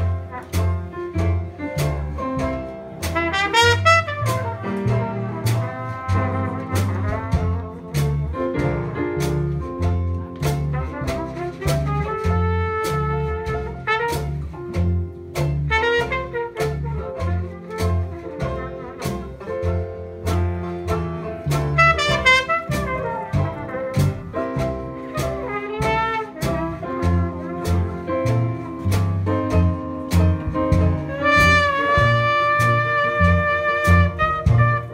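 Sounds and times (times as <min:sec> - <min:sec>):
drums: 0:00.0 - 0:34.9
horn: 0:00.0 - 0:34.9
piano: 0:00.0 - 0:34.9
string bass: 0:00.0 - 0:34.9
clarinet: 0:03.1 - 0:09.3, 0:10.2 - 0:34.9.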